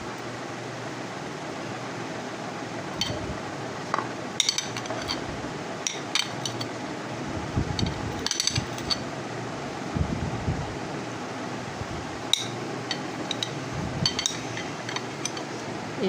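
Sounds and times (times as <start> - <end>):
background hum: 0.0 - 16.0.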